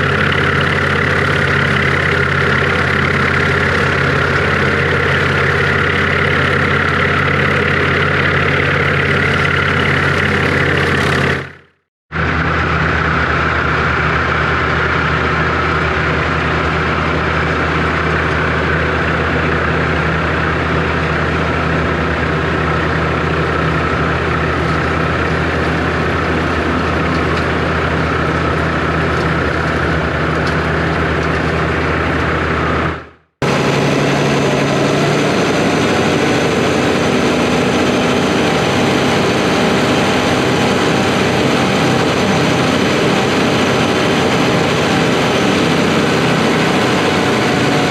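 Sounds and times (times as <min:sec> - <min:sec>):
high engine whine: 0:00.0 - 0:47.9
tractor engine running: 0:00.0 - 0:47.9.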